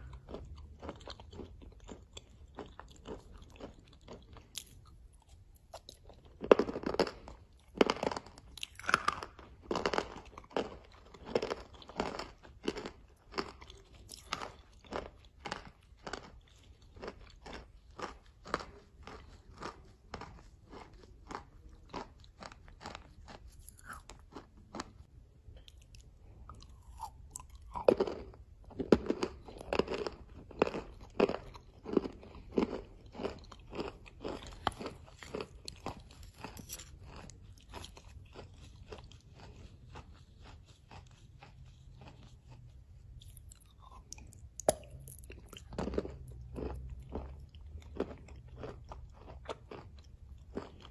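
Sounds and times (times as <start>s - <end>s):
chewing and crunching chalk: 0.0s - 50.9s.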